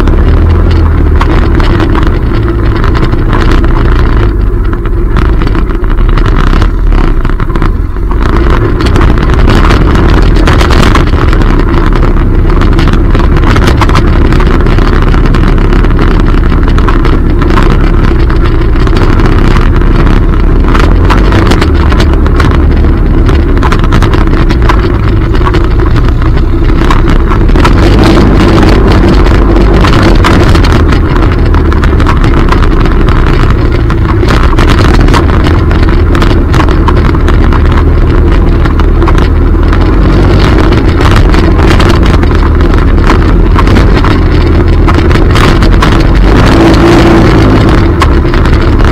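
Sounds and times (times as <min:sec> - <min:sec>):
atv engine running: 0:00.0 - 0:48.9
clicks and knocks from riding: 0:00.0 - 0:48.9.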